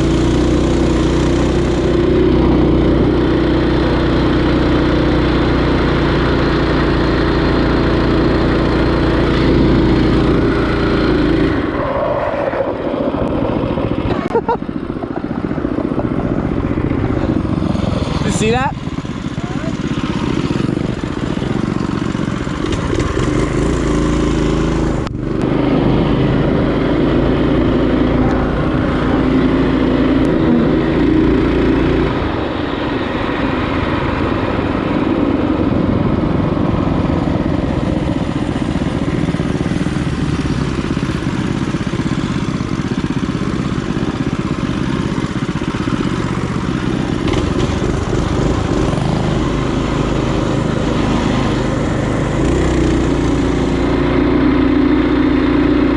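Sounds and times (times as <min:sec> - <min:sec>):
minibike engine running: 0:00.0 - 0:55.9.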